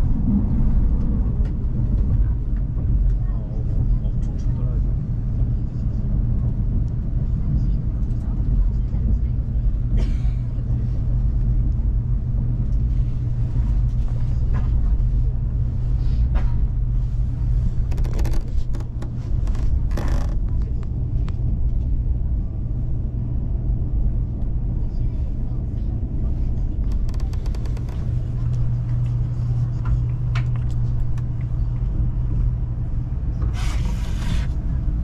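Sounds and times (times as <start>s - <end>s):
train cabin rumble: 0.0s - 35.0s.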